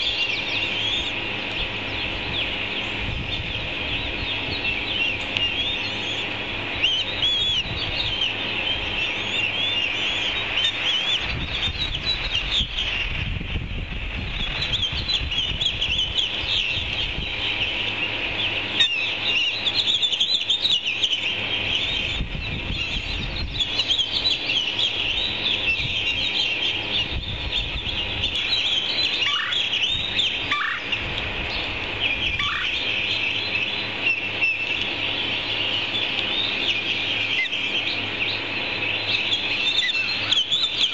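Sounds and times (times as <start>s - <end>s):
nestlings chirping begging calls: 0.0s - 13.2s, 13.8s - 40.9s
lower falling bird calls: 0.0s - 40.9s.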